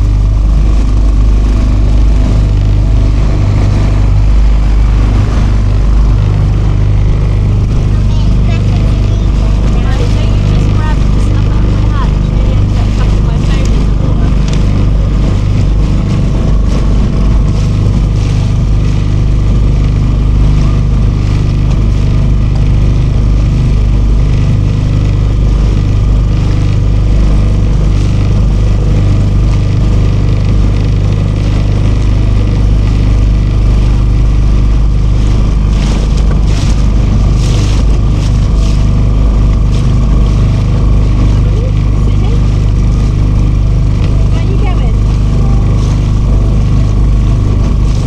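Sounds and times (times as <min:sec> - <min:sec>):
outboard engine running: 0:00.0 - 0:48.0.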